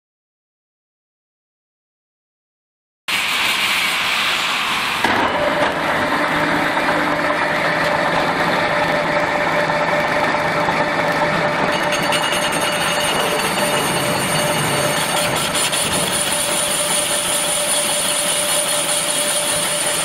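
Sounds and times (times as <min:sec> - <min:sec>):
milling machine drone: 0:03.2 - 0:20.0
thin steady whine: 0:03.9 - 0:20.0.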